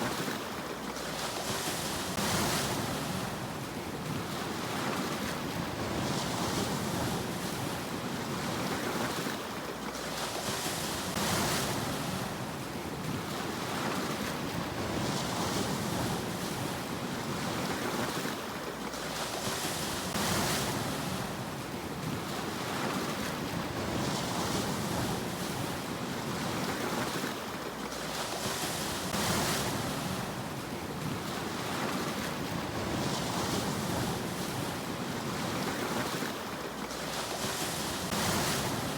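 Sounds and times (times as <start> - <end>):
sea waves washing in: 0.0 - 38.9.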